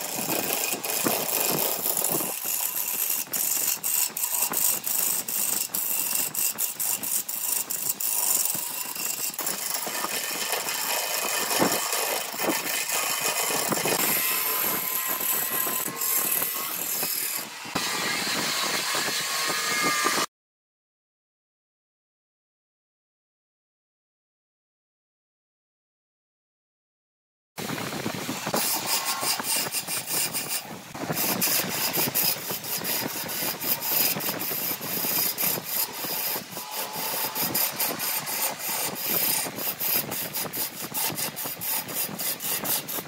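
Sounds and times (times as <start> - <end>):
wood lathe gouge scraping: 0.0 - 20.3, 28.2 - 43.0.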